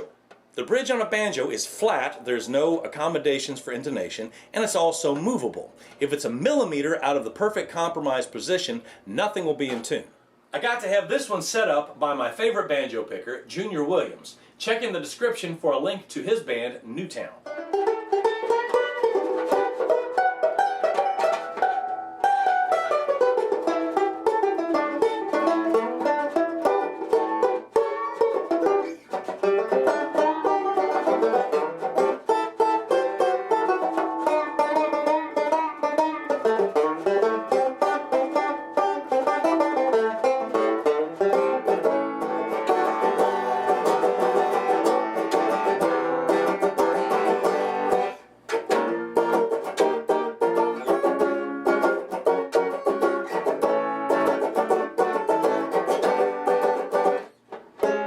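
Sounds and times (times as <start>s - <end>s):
banjo plucked notes: 0.0s - 8.6s, 17.4s - 58.0s.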